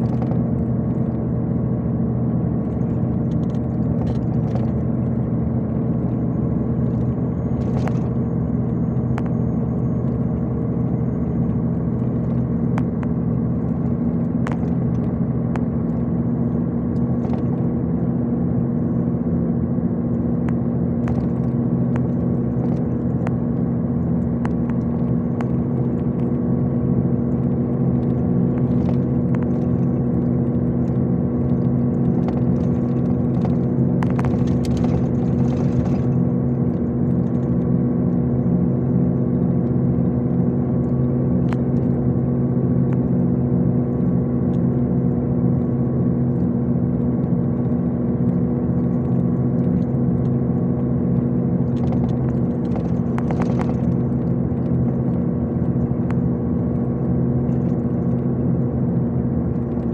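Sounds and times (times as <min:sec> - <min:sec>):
coach engine drone: 0:00.0 - 0:59.9
road noise: 0:00.0 - 0:59.9.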